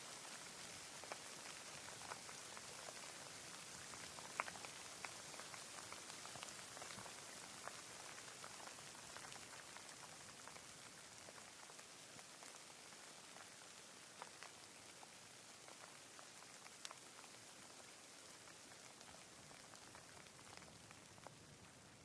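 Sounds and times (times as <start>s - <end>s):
rain falling steadily: 0.0s - 22.0s
raindrops ticking close by: 0.0s - 22.0s.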